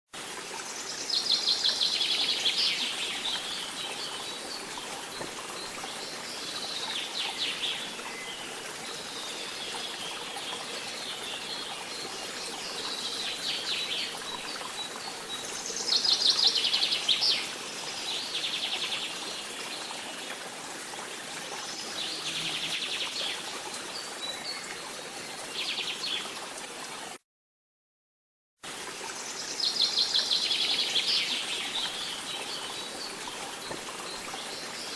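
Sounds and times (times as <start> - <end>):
forest background hiss: 0.2 - 27.2, 28.7 - 34.9.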